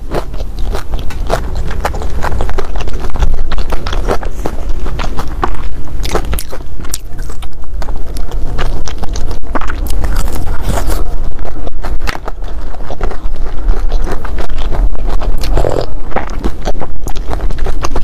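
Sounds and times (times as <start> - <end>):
chewing crunchy bread: 0.0 - 18.0.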